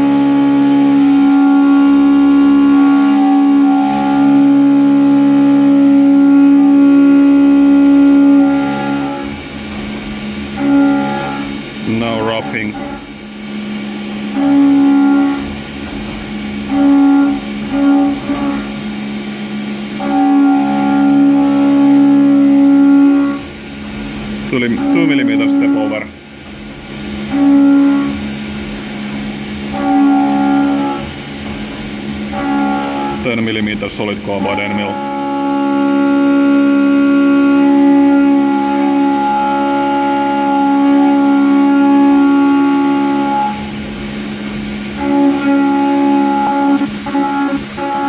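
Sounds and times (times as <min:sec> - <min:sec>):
milling machine cutting metal: 0:00.0 - 0:48.0.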